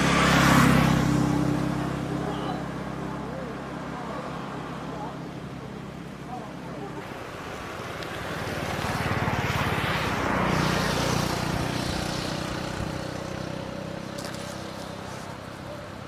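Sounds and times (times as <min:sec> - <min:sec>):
motorcycle engine passing by: 0:00.0 - 0:05.2, 0:07.0 - 0:16.0.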